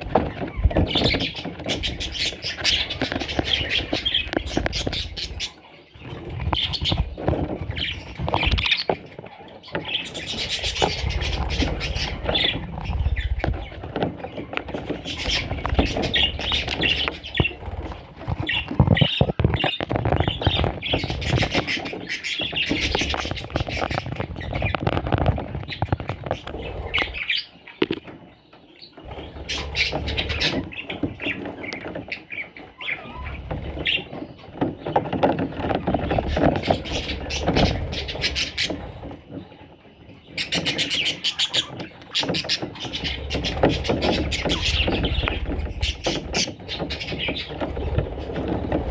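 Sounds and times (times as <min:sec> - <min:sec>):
clicks and scratching: 0:00.0 - 0:28.2, 0:29.0 - 0:39.6, 0:40.3 - 0:48.9
budgerigars chirping: 0:00.0 - 0:48.9.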